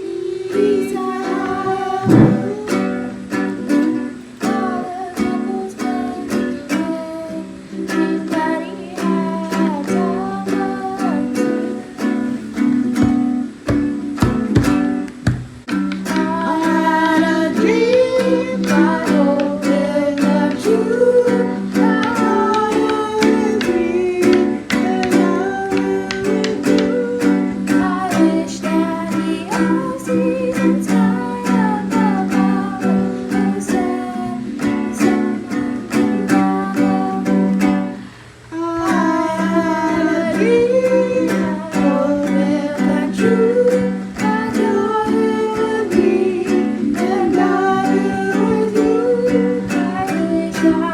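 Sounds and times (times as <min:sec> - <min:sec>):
person singing: 0:00.0 - 0:50.9
ukulele strumming: 0:00.0 - 0:50.9.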